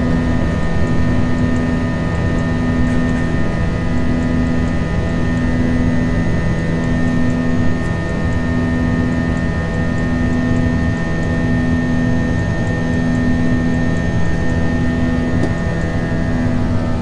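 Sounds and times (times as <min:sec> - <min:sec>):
airplane cabin engine rush: 0:00.0 - 0:17.0
low pulsing hum: 0:00.0 - 0:17.0.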